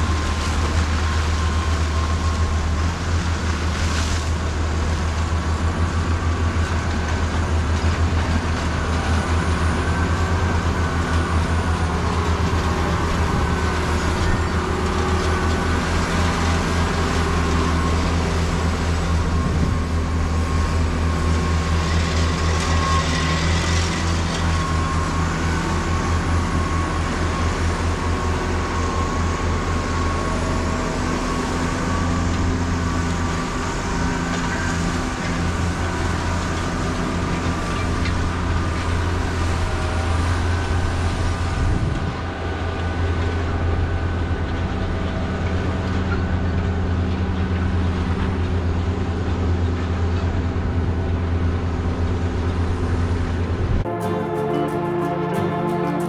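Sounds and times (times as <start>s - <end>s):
farm machinery engines droning: 0.0s - 56.0s.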